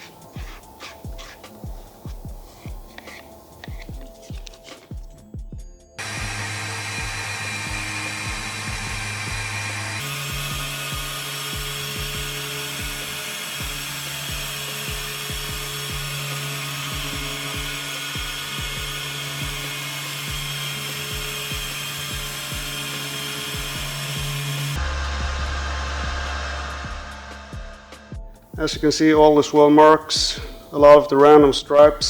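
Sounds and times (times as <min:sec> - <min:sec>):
machine polisher whirring: 0:00.0 - 0:05.1, 0:06.0 - 0:29.3
music with steady beat: 0:00.0 - 0:32.0.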